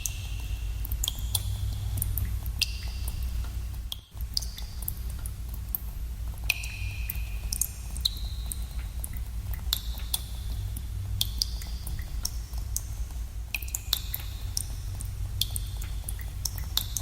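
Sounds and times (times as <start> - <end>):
steady low rumble: 0.0 - 17.0
water dripping in a cave: 0.0 - 17.0.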